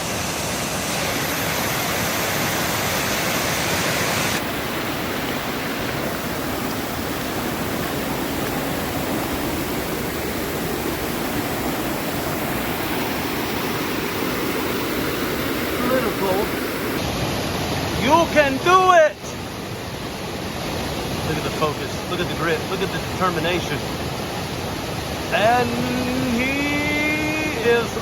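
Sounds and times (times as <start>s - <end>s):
stream pouring over waterfall: 0.0s - 28.0s.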